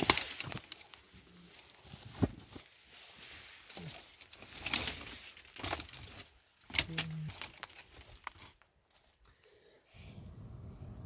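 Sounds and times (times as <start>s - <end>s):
dry twigs and leaves crunching: 0.0s - 9.4s.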